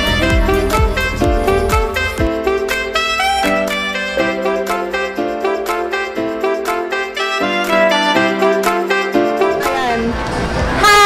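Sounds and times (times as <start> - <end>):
melodic intro music with beat: 0.0 - 10.9.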